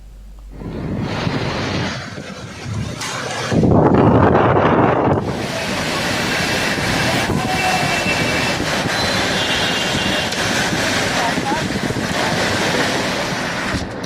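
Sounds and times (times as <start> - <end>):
wind and rain: 0.0 - 14.0
wind buffeting microphone: 0.0 - 14.0.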